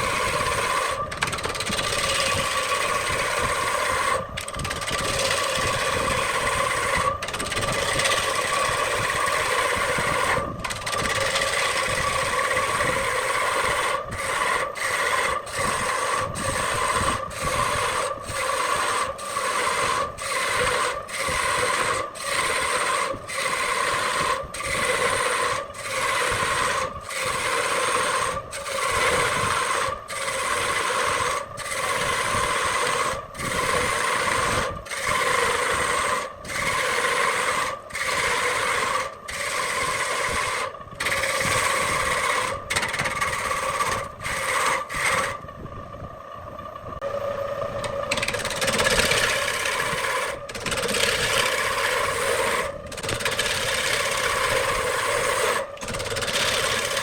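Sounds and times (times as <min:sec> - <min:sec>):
wood lathe scraping wood: 0:00.0 - 0:45.9, 0:47.0 - 0:57.0.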